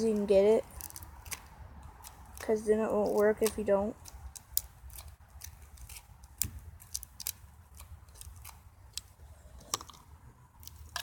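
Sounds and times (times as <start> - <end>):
scissors snipping tape: 0.1 - 9.1.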